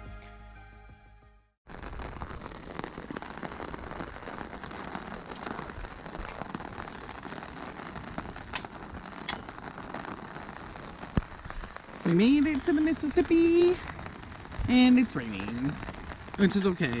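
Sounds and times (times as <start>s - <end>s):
rain on an umbrella: 1.6s - 17.0s.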